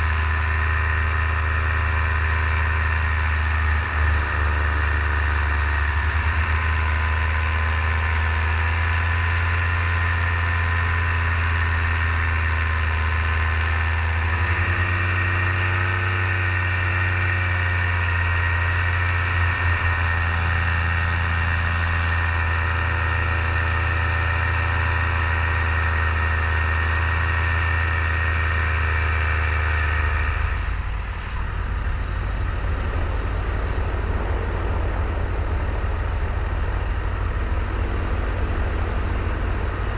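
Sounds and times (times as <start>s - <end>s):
paramotor engine drone: 0.0s - 39.9s.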